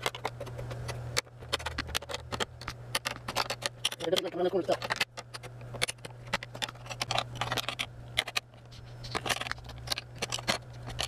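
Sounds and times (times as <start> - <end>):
metallic clicks and scrapes: 0.0 - 11.0.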